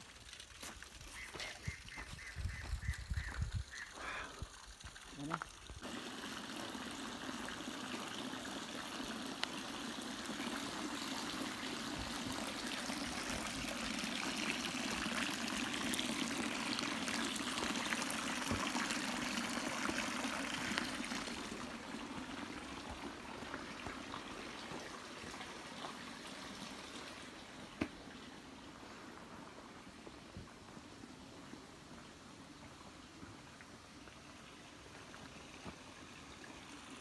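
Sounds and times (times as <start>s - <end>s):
running water: 0.0s - 37.0s.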